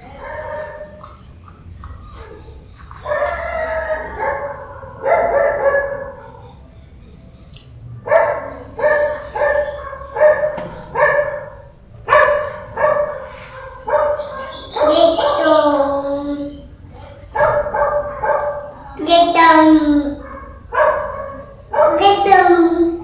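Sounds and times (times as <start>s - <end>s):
dog drawn-out calls: 0.0s - 6.7s, 8.0s - 23.0s
dog barking: 0.0s - 6.8s, 8.0s - 23.0s.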